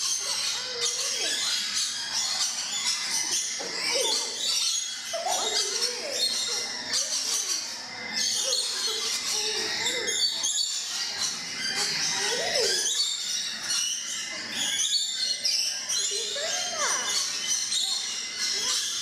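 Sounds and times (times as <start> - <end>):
birds screeching and chattering: 0.0 - 19.0.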